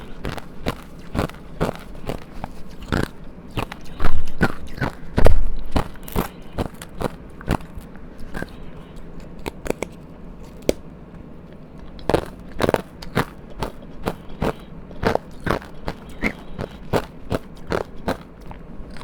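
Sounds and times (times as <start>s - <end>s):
chewing crunchy ice: 0.0s - 10.9s, 11.6s - 19.0s.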